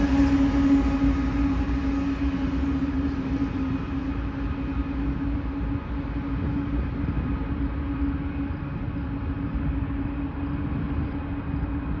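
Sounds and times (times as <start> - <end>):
locomotive engine drone: 0.0 - 12.0
train wheels rumbling on rails: 0.0 - 12.0.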